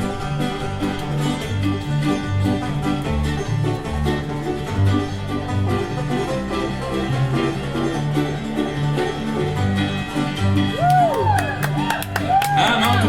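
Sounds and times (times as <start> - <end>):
banjo picking: 0.0 - 13.0
bass line: 0.0 - 13.0
strummed guitar: 0.0 - 13.0.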